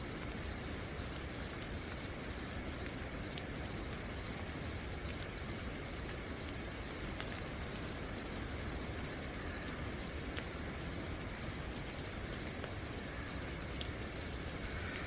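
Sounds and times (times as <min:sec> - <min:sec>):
crickets chirping: 0:00.0 - 0:15.0
faint drips ticking: 0:00.0 - 0:15.0
steady rain falling: 0:00.0 - 0:15.0.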